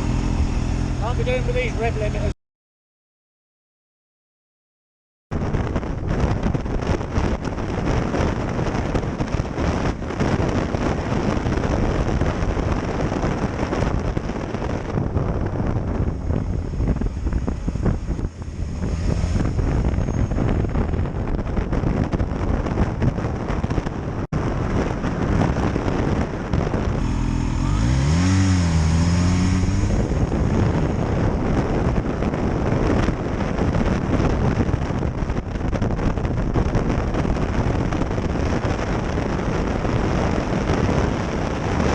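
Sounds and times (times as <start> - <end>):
motorcycle engine revving: 0.0 - 2.3, 6.8 - 41.6
wind rush over microphone: 5.3 - 41.9.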